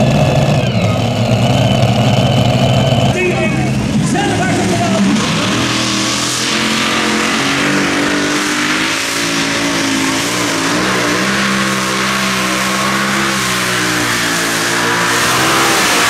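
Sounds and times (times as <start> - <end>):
tractor engine at high revs: 0.0 - 16.0.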